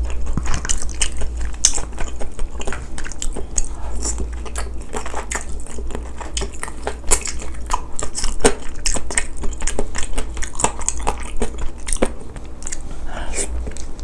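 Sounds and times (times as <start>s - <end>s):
person chewing with wet smacks: 0.0s - 14.0s
steady low hum: 0.0s - 14.0s.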